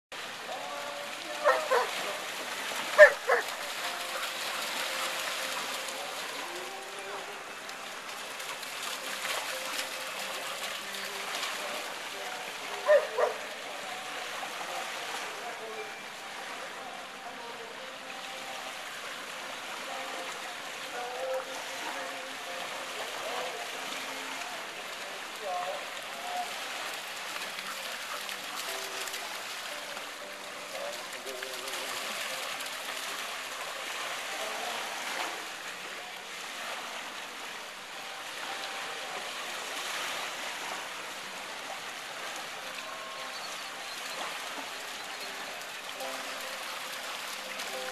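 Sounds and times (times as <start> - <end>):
small waves washing onto shore: 0.1 - 47.9.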